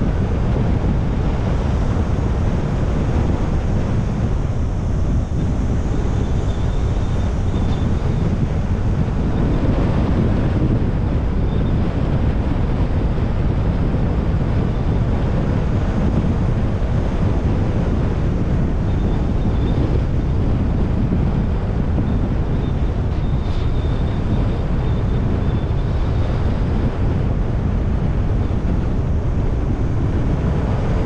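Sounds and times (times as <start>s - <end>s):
car road noise: 0.0s - 31.0s
wind rushing over microphone: 0.0s - 31.0s.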